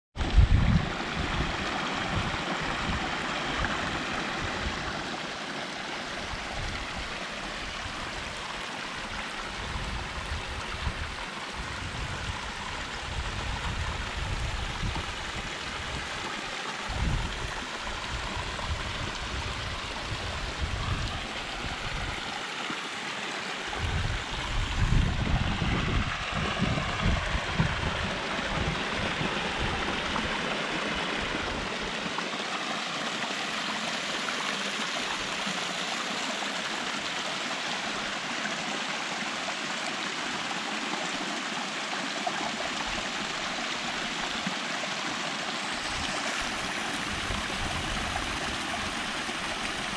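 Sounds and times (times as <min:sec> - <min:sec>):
stream water splashing: 0:00.2 - 0:49.9.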